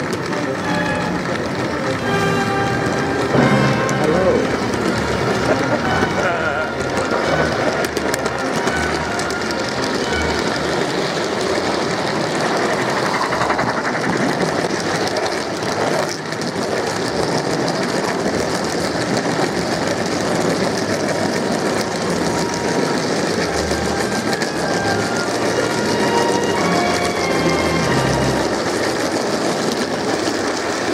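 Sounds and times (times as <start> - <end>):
model train wheels rattling: 0.0 - 30.9.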